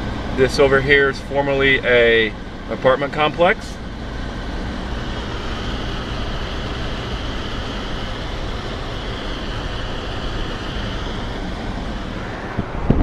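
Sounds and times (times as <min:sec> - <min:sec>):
car road noise from inside: 0:00.0 - 0:13.0.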